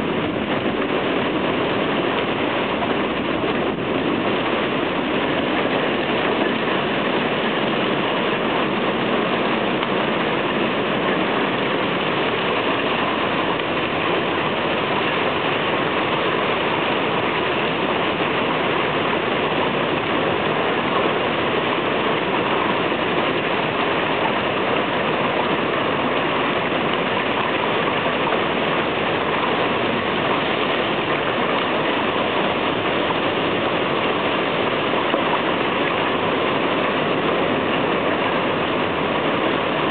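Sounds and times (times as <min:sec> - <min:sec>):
heavy rain roaring: 0:00.0 - 0:39.9.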